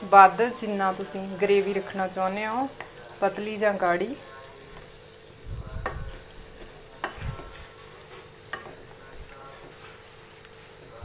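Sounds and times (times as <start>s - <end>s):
curry sizzling in a pan: 0.0s - 11.0s
ladle stirring in a pan: 0.0s - 11.0s.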